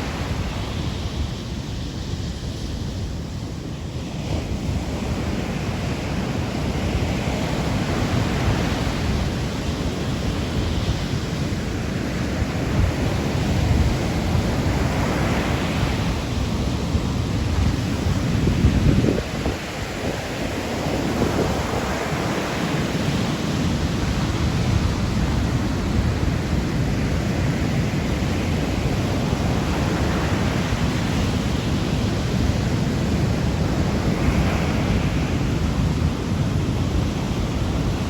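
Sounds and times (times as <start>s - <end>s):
sea surf roaring: 0.0s - 38.0s
wind rumbling on microphone: 0.0s - 38.0s.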